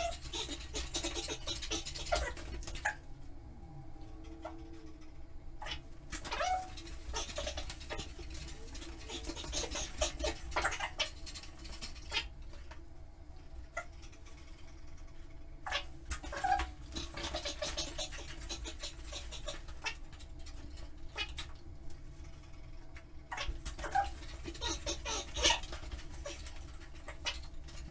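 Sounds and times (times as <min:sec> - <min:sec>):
low hum: 0:00.0 - 0:27.9.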